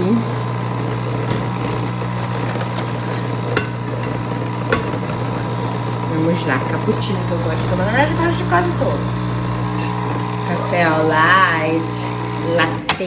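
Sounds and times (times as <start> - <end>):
coffee machine humming: 0.0 - 13.0.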